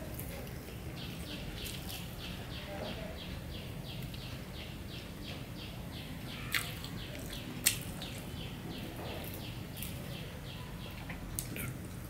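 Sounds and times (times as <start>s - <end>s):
bird chirping: 0.6s - 11.7s.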